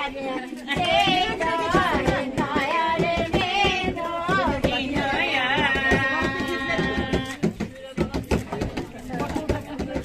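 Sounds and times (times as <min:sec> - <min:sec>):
woman singing with vibrato: 0:00.0 - 0:08.2
rhythmic beat: 0:00.0 - 0:10.0.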